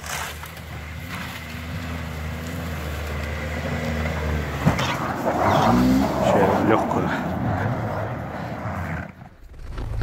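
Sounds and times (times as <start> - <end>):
suv engine climbing: 0.0 - 10.0.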